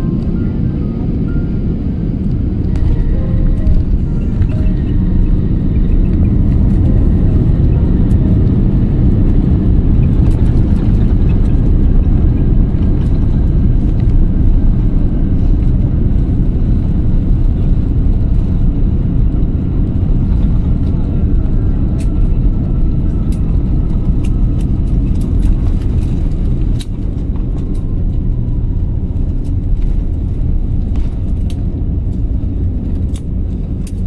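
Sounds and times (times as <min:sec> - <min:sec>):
airliner cabin engine rumble: 0:00.0 - 0:34.0.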